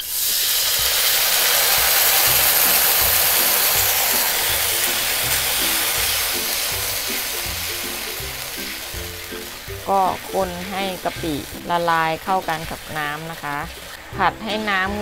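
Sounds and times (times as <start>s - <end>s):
water sizzling in hot oil: 0.0s - 15.0s.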